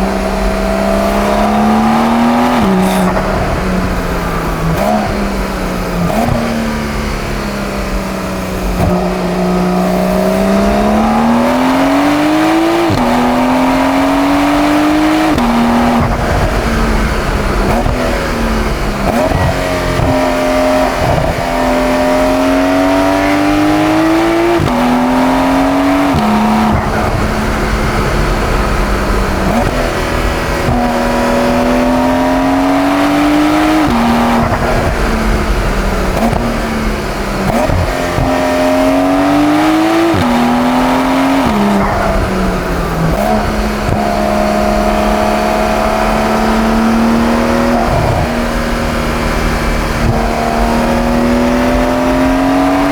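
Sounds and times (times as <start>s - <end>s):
car engine accelerating through gears: 0.0s - 52.9s.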